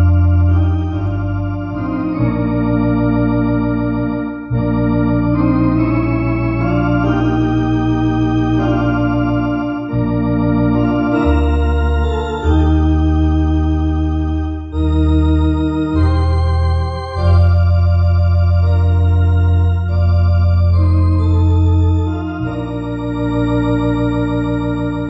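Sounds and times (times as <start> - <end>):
electronic organ playing a hymn: 0.0 - 25.0.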